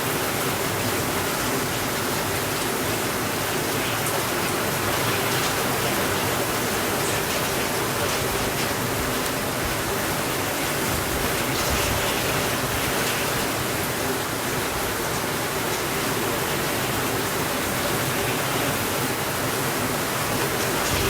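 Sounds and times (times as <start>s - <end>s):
heavy rain on a window: 0.0s - 21.0s.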